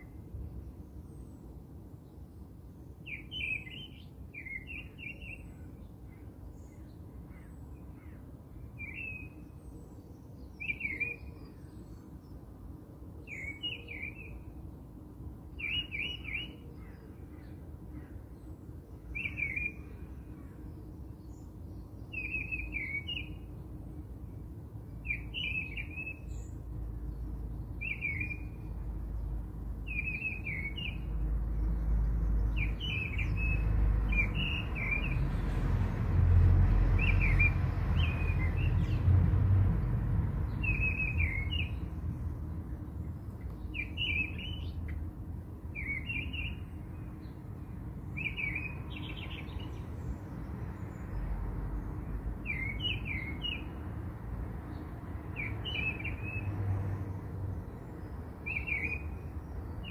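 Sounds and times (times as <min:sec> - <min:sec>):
songbird chirping: 0:00.0 - 0:59.9.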